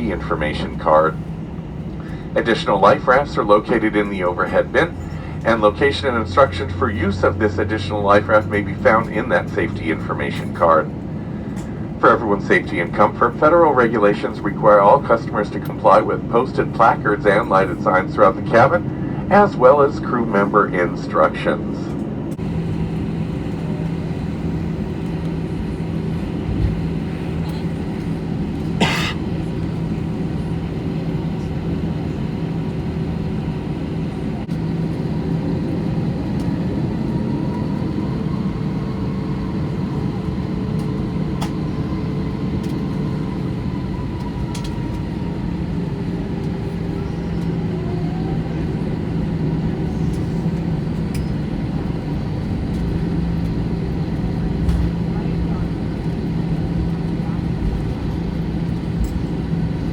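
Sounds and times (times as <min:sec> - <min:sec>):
aircraft cabin engine hum: 0:00.0 - 0:59.9.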